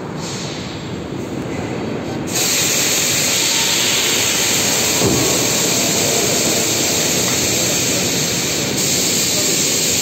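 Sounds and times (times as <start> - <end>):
machinery hissing air: 0.0 - 1.1, 2.2 - 10.0.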